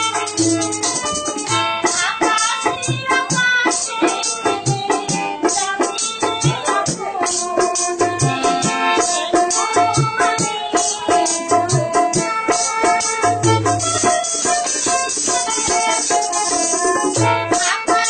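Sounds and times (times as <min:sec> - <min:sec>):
music with steady drum beat: 0:00.0 - 0:18.0
quick rattling percussion: 0:00.0 - 0:18.0.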